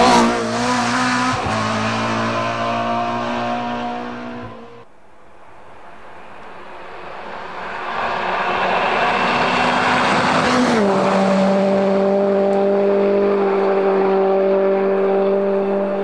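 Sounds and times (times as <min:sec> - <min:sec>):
rally car passing at full throttle: 0:00.0 - 0:04.9, 0:05.8 - 0:16.0.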